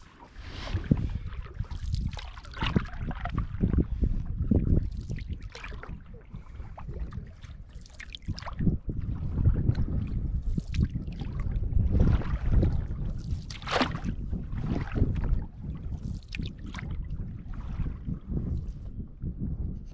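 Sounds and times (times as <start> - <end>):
water splashing against canoe: 0.0 - 18.8
wind rumbling on microphone: 0.0 - 19.9.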